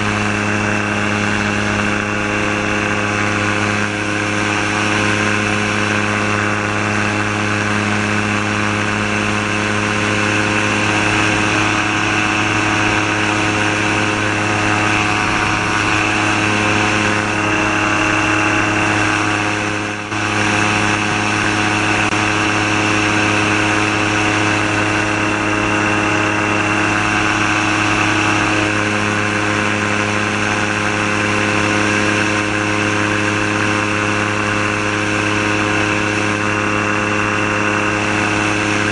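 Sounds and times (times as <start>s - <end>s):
aircraft engine running: 0.0s - 38.9s
wind noise: 0.0s - 38.9s.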